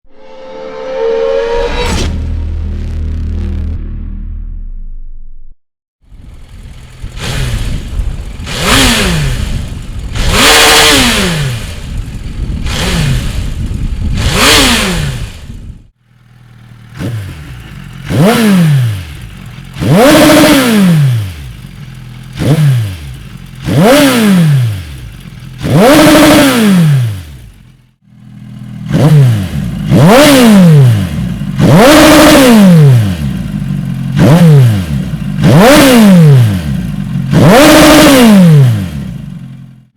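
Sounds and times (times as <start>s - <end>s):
motorcycle engine revving: 0.1s - 3.7s, 6.0s - 39.9s.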